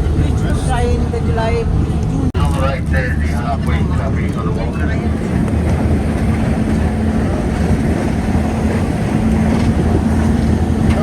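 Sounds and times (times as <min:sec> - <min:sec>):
low hum: 0:00.0 - 0:11.0
train running rumble: 0:00.0 - 0:11.0.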